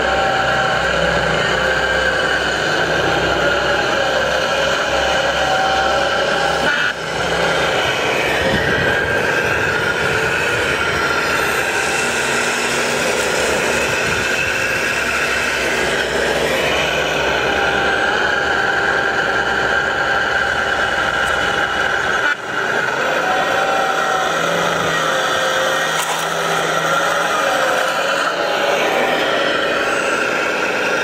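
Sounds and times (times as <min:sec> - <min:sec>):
toy excavator motor whine: 0:00.0 - 0:31.0.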